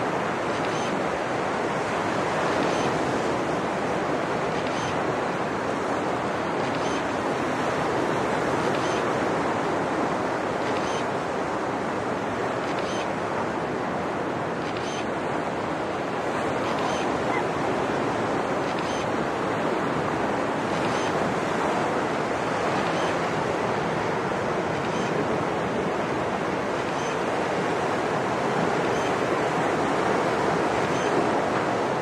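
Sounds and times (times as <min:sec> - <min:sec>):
ocean waves breaking on beach: 0:00.0 - 0:32.0.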